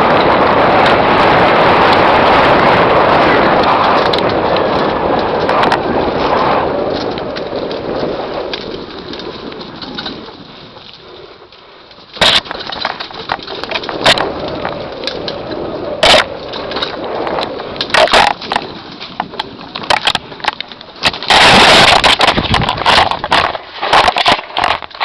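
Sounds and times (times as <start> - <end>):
bike knocking over bumps: 0.0 - 11.0, 12.0 - 25.0
bike rattling: 0.0 - 25.0
bike tyre noise: 0.0 - 25.0.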